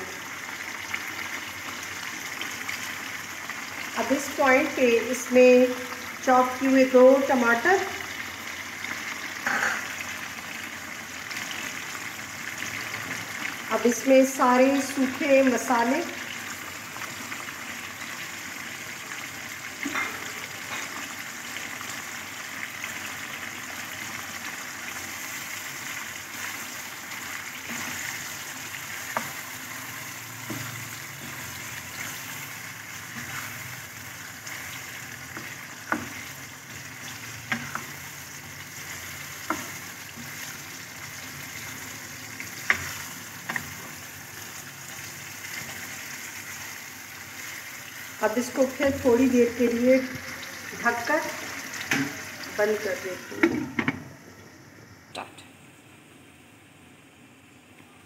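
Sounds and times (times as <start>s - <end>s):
chicken sizzling in oil: 0.0s - 54.6s.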